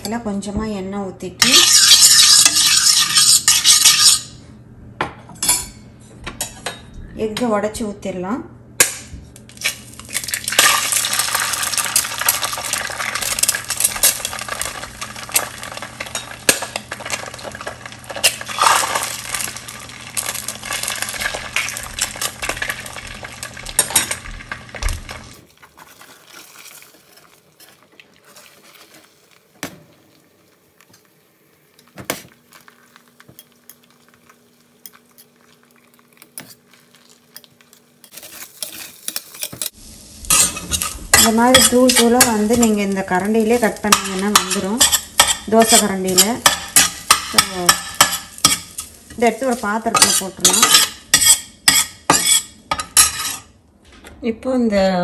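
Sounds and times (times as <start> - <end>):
eggs crackling in hot oil: 1.4 - 4.3, 9.4 - 53.2.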